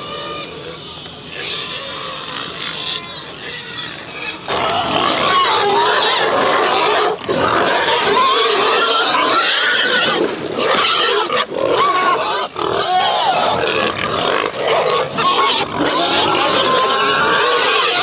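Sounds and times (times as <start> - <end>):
pigs squealing: 0.0 - 18.0.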